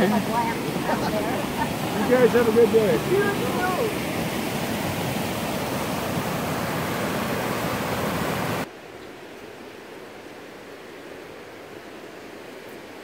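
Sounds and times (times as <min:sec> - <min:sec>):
quiet water hiss: 0:00.0 - 0:13.0
roar of rushing water: 0:00.0 - 0:13.0.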